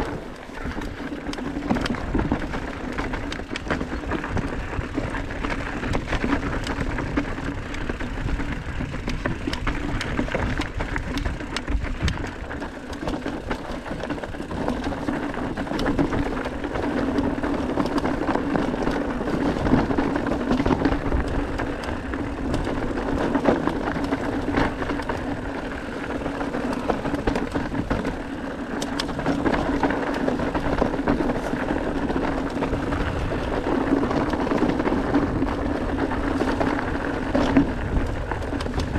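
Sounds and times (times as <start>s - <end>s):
bike clicks and rattles: 0.0s - 38.9s
tyres crunching on gravel: 0.0s - 38.9s.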